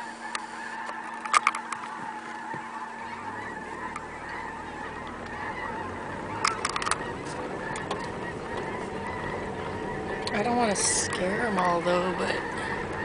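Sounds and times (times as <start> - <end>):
flock of birds honking: 0.0 - 13.0.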